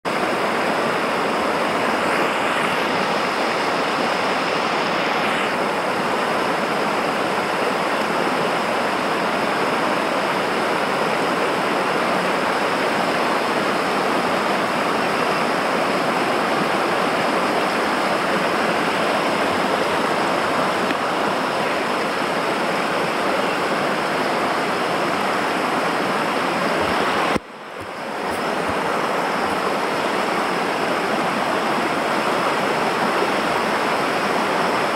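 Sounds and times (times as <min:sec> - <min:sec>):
river rapids roaring: 0:00.1 - 0:34.9.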